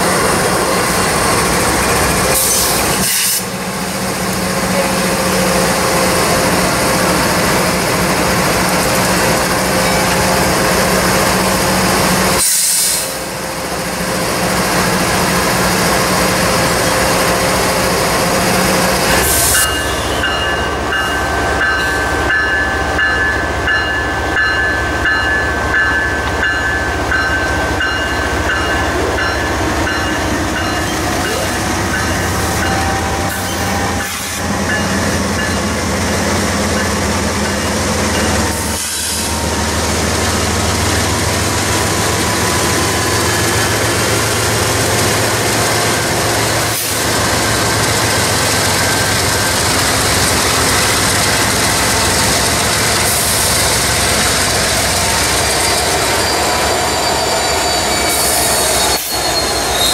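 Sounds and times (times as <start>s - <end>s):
diesel locomotive engines rumbling: 0.0s - 59.9s
wheel and rail noise: 0.0s - 59.9s.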